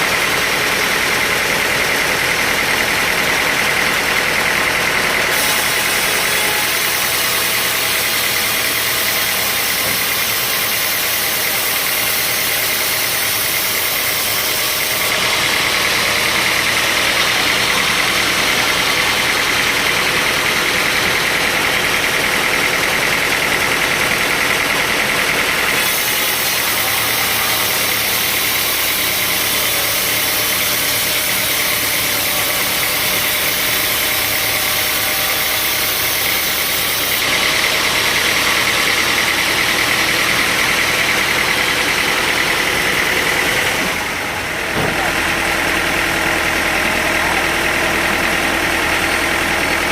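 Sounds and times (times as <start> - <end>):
sawmill machinery drone and whine: 0.0 - 49.9.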